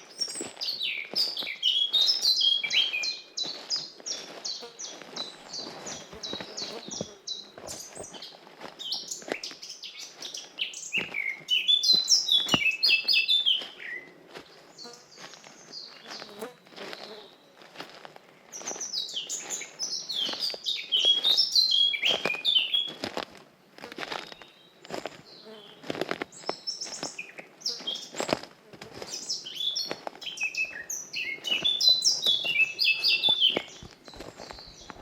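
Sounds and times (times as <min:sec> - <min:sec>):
songbirds singing: 0:00.0 - 0:23.0, 0:23.6 - 0:35.0
soft footsteps on forest path: 0:00.0 - 0:35.0.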